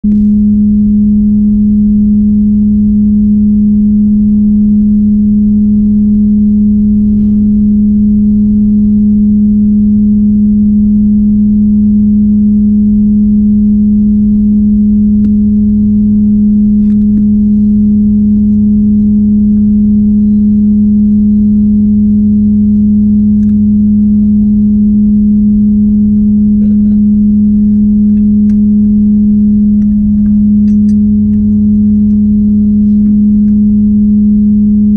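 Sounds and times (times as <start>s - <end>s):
low rumble: 0.0s - 34.9s
steady low hum: 0.0s - 34.9s.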